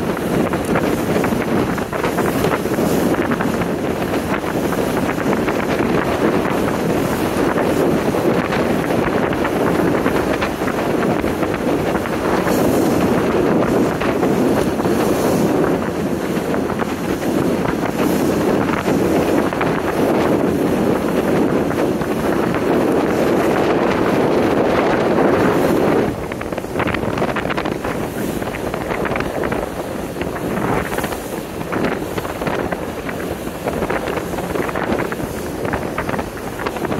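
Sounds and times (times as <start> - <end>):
boat rushing through choppy water: 0.0 - 36.9
wind buffeting the microphone: 0.0 - 36.9.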